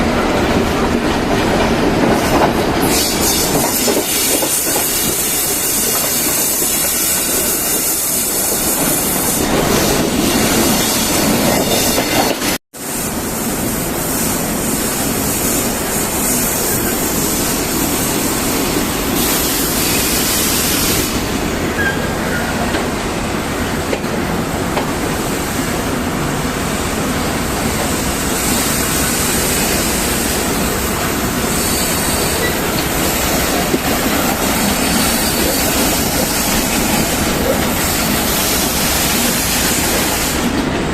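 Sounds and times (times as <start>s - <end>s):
train wheels on rails: 0.0s - 40.9s.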